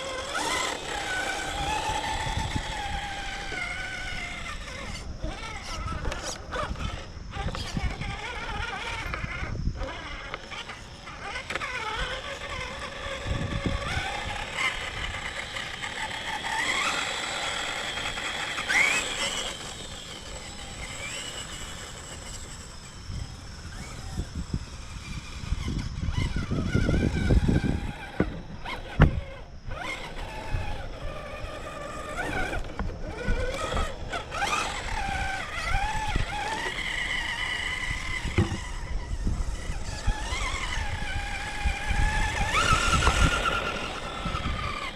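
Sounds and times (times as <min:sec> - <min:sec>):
electric motor whine: 0:00.0 - 0:44.9.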